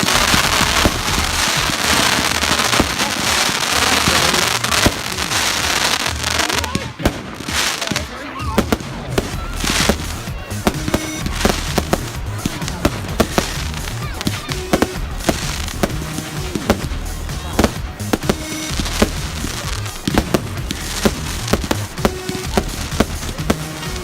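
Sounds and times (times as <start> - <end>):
fireworks bangs and crackles: 0.0 - 24.0
music playing: 0.0 - 24.0.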